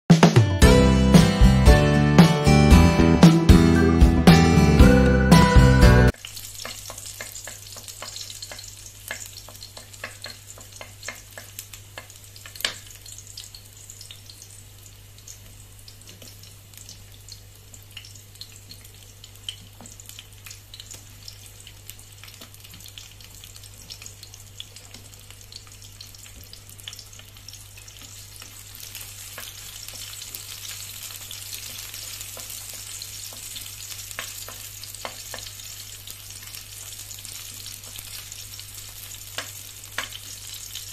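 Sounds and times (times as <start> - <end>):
garlic and onion sizzling in oil: 6.0 - 40.9.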